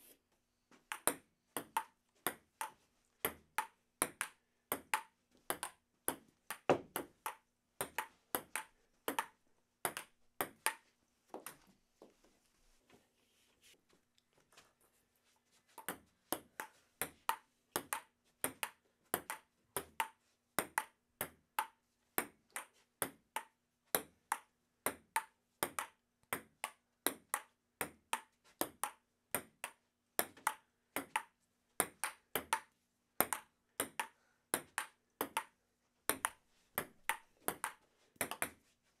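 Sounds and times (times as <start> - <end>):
table tennis ball hits: 0.8 - 11.6, 15.8 - 38.6.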